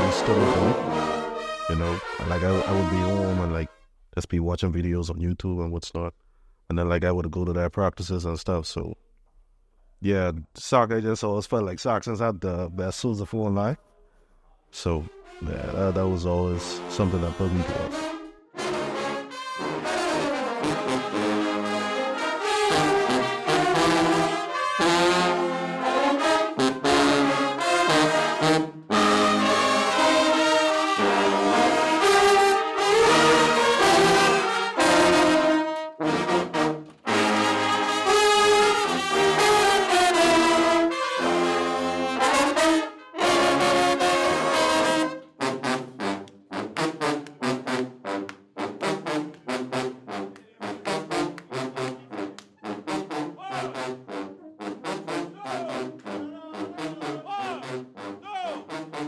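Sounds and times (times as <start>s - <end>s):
brass section playing: 0.0s - 3.8s, 15.1s - 59.0s.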